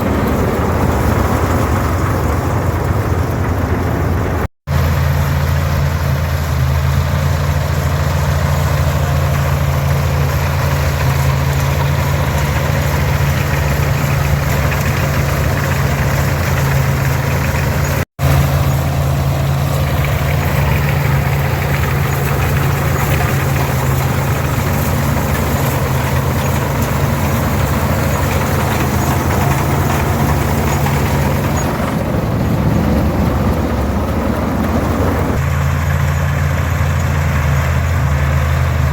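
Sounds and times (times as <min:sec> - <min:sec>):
combine machinery running: 0:00.0 - 0:38.9
tractor diesel engine running: 0:00.0 - 0:38.9.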